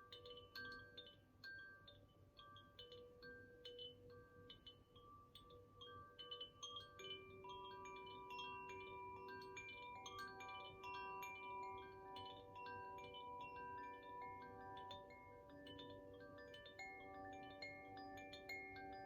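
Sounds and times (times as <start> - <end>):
wind chime ringing: 0.0 - 19.0.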